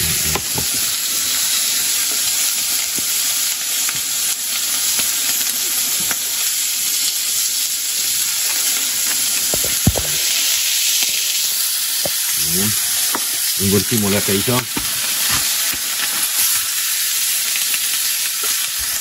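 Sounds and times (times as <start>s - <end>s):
hot oil sizzling in a frying pan: 0.0s - 19.0s.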